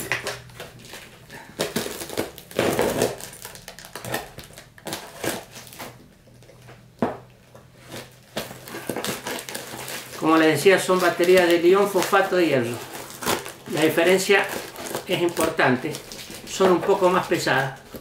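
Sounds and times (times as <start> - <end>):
scissors slicing packing tape: 0.0 - 6.0, 7.9 - 17.3.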